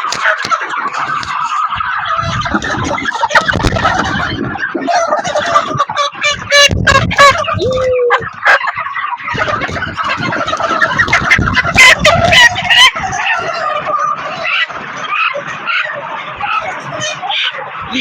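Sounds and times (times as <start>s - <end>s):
chickens clucking and squawking: 0.0s - 18.0s.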